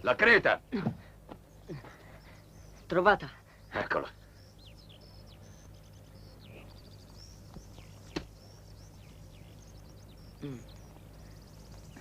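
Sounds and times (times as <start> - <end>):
birds chirping and trilling: 0.0 - 12.0
low steady hum: 0.0 - 12.0.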